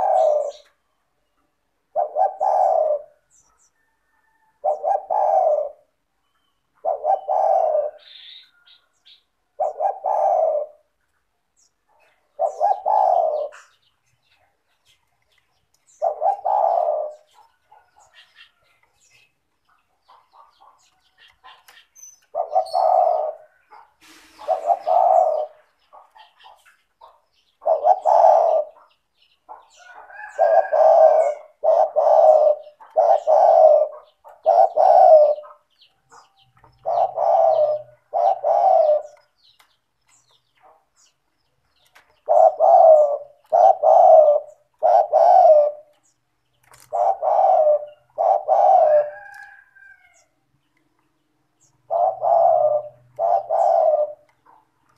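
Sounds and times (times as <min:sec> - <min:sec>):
dove cooing: 0:00.0 - 0:00.8, 0:01.8 - 0:06.1, 0:06.7 - 0:11.0, 0:12.0 - 0:14.5, 0:15.7 - 0:19.1, 0:20.0 - 0:39.4, 0:41.9 - 0:50.3, 0:51.6 - 0:54.7.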